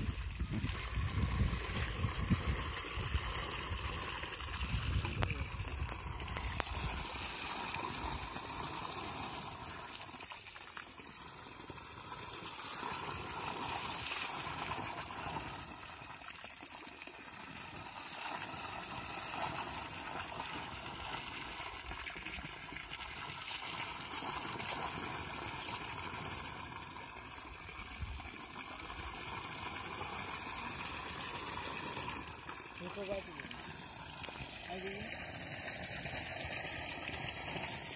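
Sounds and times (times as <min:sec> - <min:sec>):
plastic bottle filling with water: 0:00.0 - 0:37.9
water pouring onto grass: 0:00.0 - 0:37.9.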